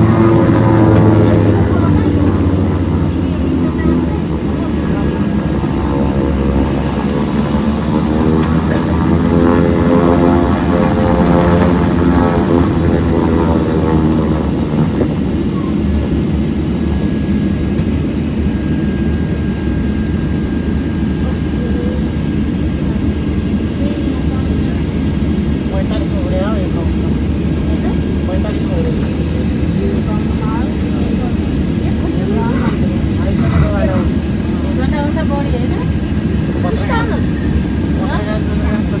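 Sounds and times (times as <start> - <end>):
turboprop engines droning: 0.0 - 39.0.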